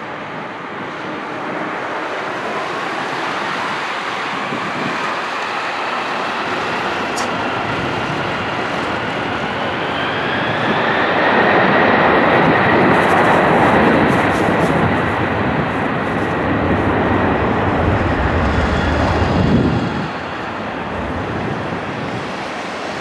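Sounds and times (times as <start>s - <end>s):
jet engines whining: 0.9s - 12.8s, 13.6s - 23.0s.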